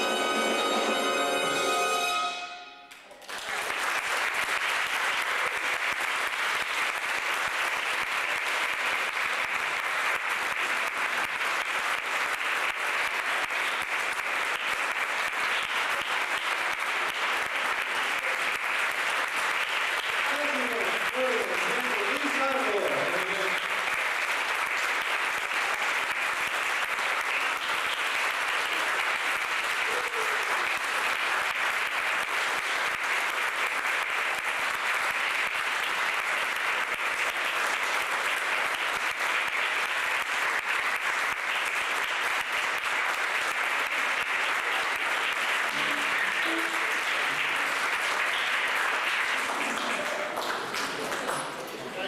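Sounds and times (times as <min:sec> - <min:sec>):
audience applauding: 0:00.0 - 0:02.3, 0:02.9 - 0:52.0.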